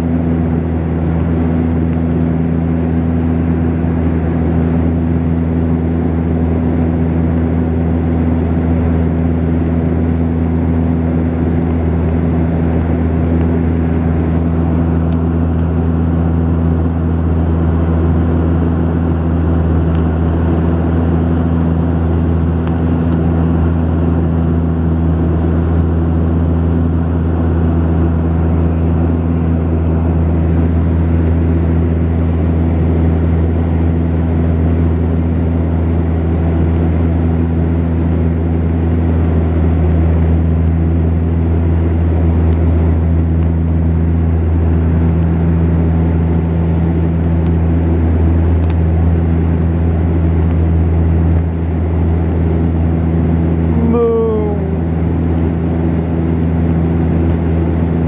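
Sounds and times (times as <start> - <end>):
turboprop cabin drone: 0.0 - 58.0.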